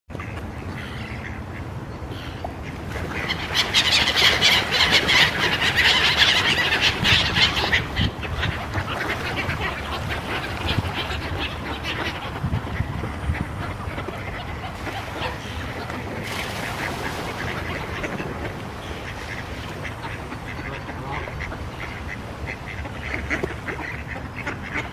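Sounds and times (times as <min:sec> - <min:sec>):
ducks quacking: 0:00.1 - 0:24.9
gulls calling: 0:00.1 - 0:24.9
wings flapping and splashing: 0:02.6 - 0:24.9.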